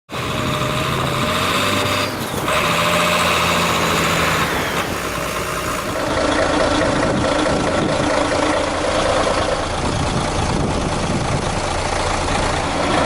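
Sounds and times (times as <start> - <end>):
truck diesel engine running: 0.1 - 13.0.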